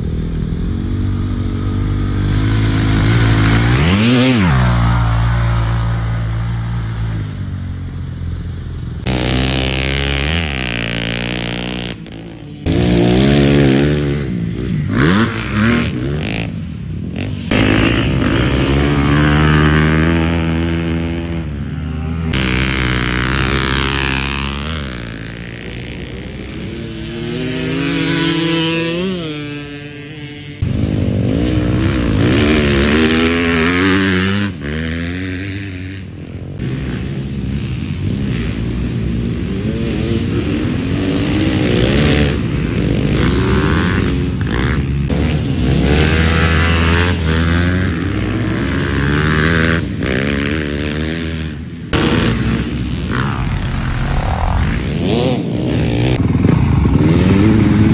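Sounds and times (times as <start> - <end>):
dirt bike engine revving: 0.0 - 7.9, 9.0 - 57.9.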